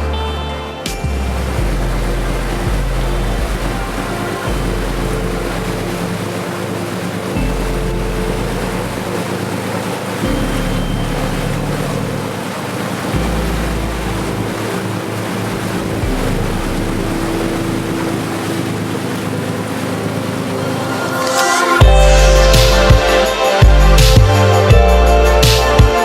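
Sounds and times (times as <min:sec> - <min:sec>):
soft music with held chords: 0:00.0 - 0:26.0
water rushing: 0:00.0 - 0:26.0
wind: 0:00.0 - 0:26.0.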